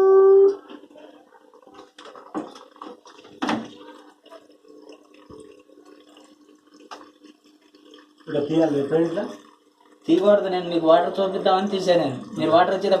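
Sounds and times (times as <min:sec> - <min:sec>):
water trickling and dripping: 0:00.6 - 0:13.0.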